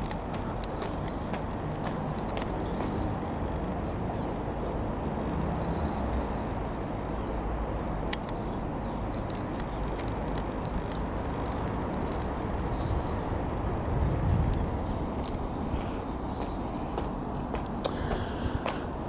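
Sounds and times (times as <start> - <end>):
distant propeller plane drone: 0.0 - 19.0
small birds chirping: 0.0 - 19.0.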